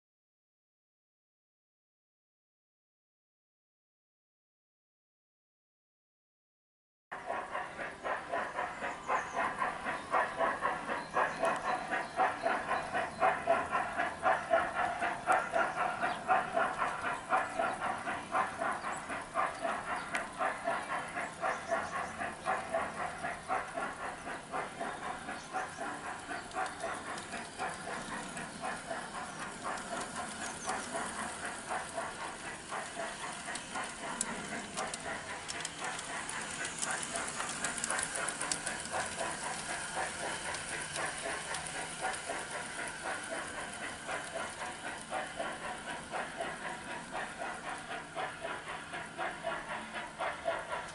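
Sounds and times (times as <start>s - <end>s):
model steam locomotive chuffing: 7.1s - 50.9s
steam hissing: 7.2s - 50.9s.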